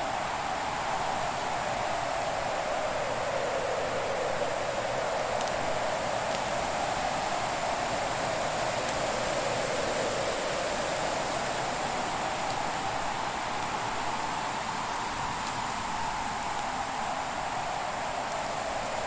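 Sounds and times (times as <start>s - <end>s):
faint fire crackles: 0.0s - 19.0s.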